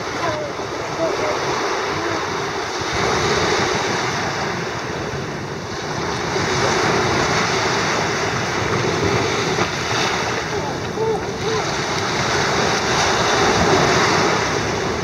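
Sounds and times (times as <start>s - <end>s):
waves washing onto sandy shore: 0.0s - 15.0s
wind buffeting microphone: 0.0s - 15.0s.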